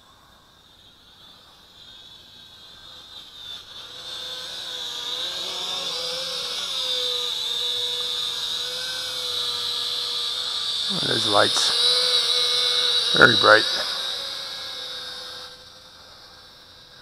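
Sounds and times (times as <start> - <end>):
quadcopter propellers whirring: 0.0 - 17.0.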